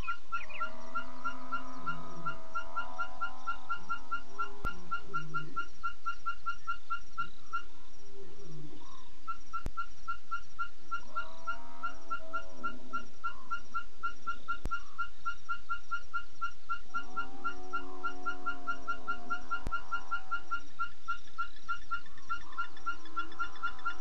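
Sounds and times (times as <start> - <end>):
wavering whining animal calls: 0.0 - 7.7, 9.3 - 24.0
steady chirping call: 0.0 - 24.0.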